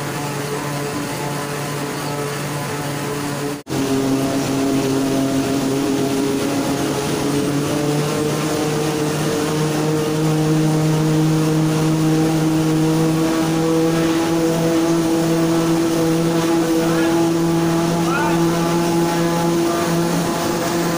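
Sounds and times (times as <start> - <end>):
machine hum: 0.0 - 20.9.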